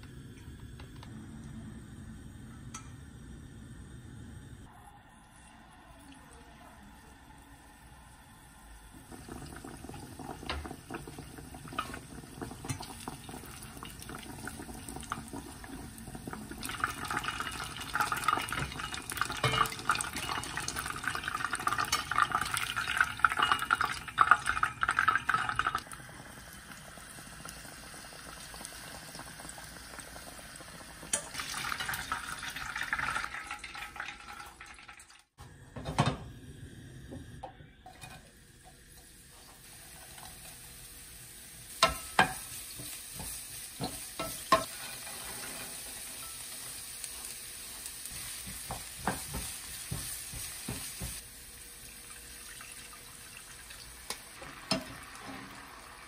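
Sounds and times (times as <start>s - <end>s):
eggplant deep-frying in oil: 6.9s - 56.0s.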